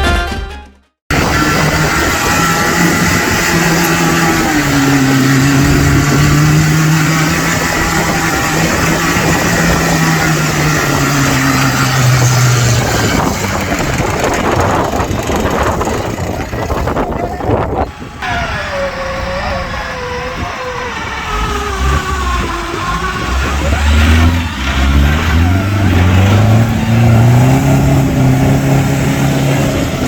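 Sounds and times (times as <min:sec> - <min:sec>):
vehicle engine at high revs: 0:01.1 - 0:30.0.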